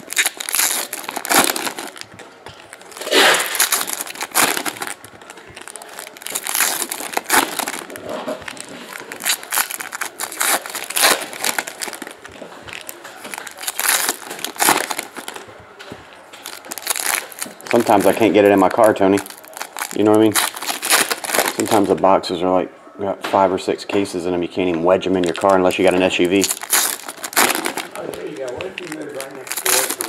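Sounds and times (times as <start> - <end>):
foil wrappers crinkling and tearing: 0.0 - 15.6, 16.2 - 22.0, 25.0 - 30.0.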